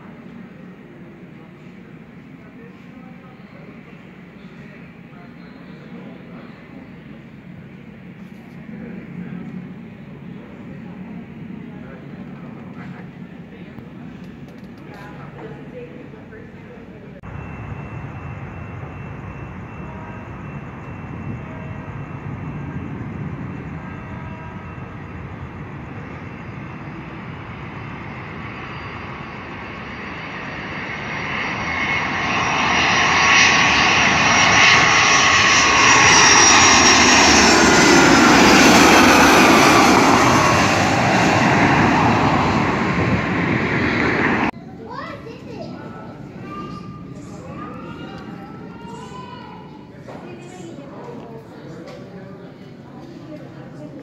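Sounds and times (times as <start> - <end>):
airliner engines passing: 0.0 - 54.0.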